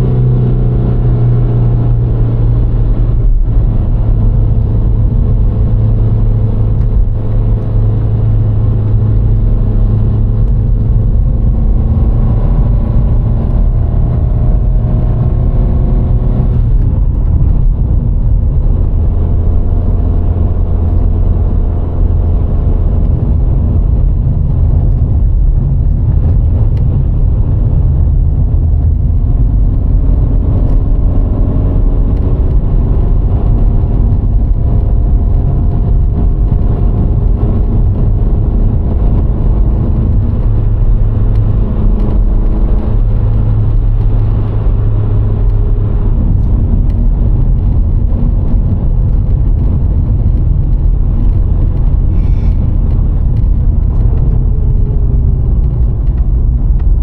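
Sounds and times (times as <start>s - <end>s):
car engine hum: 0.0s - 57.0s
tyre and wind rumble: 0.0s - 57.0s.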